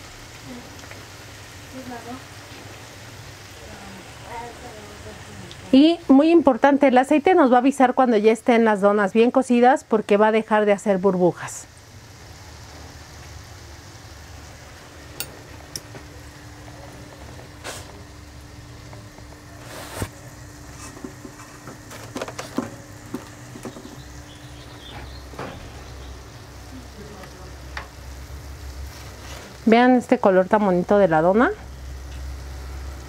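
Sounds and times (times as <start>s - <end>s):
oil sizzling with pops: 0.0s - 33.0s.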